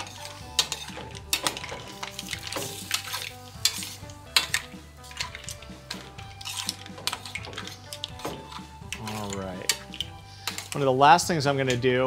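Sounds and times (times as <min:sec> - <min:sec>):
utensil and shells clinking on pan: 0:00.0 - 0:10.9
light sizzle: 0:00.0 - 0:11.0.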